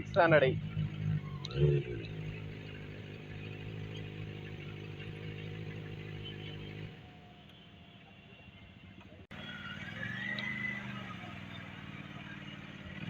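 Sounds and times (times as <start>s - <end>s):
motorcycle engine idling: 0.0s - 7.2s, 9.3s - 13.0s.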